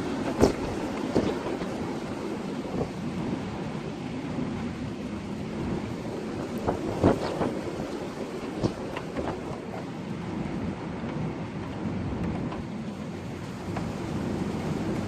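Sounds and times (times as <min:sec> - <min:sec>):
storm wind rushing: 0:00.0 - 0:15.0.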